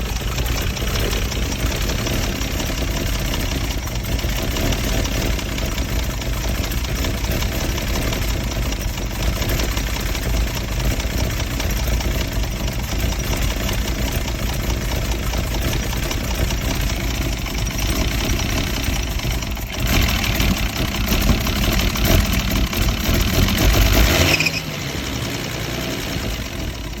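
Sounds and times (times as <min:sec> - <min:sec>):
car engine idling roughly: 0:00.0 - 0:27.0.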